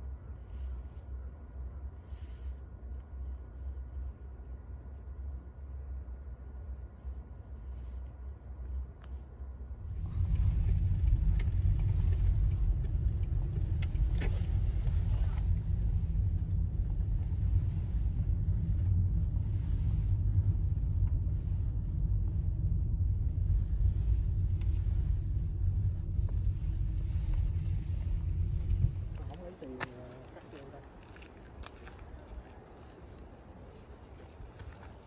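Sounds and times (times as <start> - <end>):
car cabin road rumble: 0.0 - 35.0.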